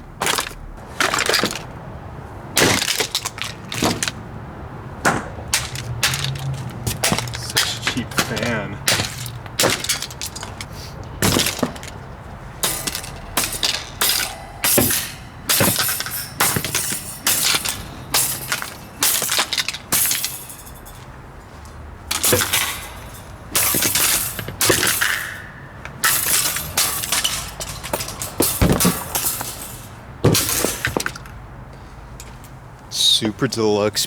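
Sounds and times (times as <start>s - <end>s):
plastic and metal cracking: 0.0s - 4.3s, 4.9s - 21.2s, 22.0s - 31.4s.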